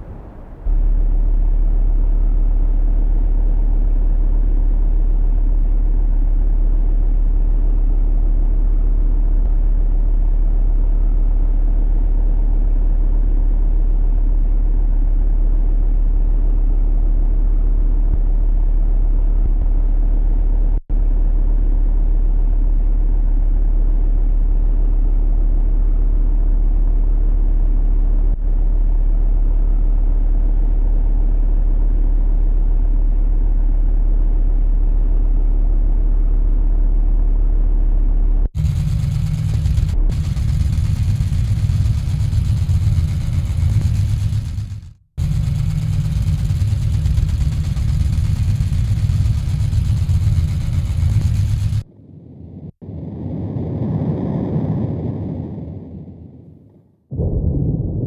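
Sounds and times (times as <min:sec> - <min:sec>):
loud low engine drone: 0:00.0 - 0:52.8.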